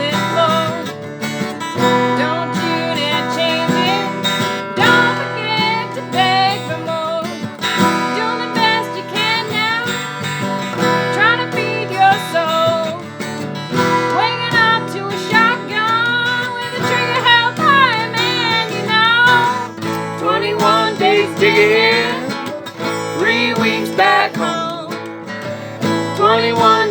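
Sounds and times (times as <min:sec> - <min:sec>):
strummed acoustic guitar: 0:00.0 - 0:26.9.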